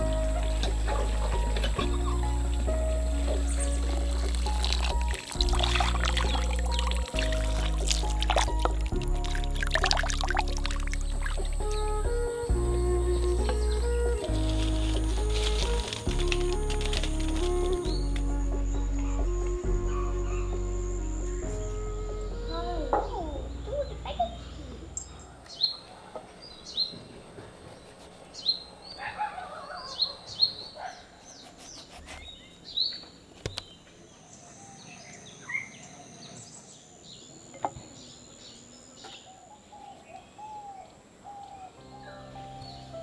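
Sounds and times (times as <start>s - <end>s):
birds chirping: 0.0s - 15.8s, 18.8s - 43.0s.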